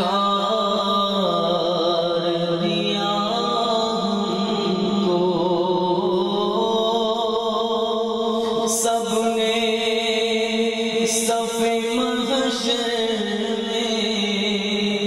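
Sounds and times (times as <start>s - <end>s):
man chanting into a microphone: 0.0s - 15.0s.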